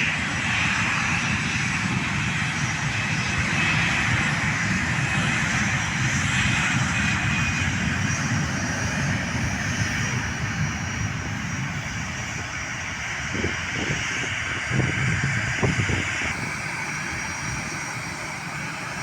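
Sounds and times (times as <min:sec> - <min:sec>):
airliner engines roaring: 0:00.0 - 0:19.0.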